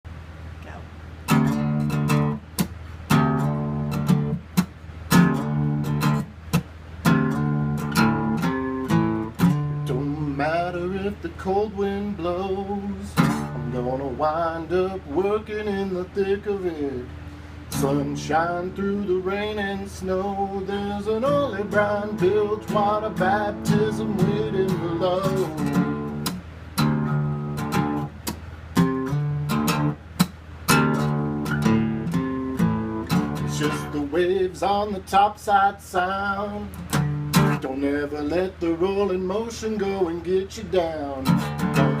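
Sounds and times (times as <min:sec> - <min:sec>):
acoustic guitar strumming: 0:01.2 - 0:42.0.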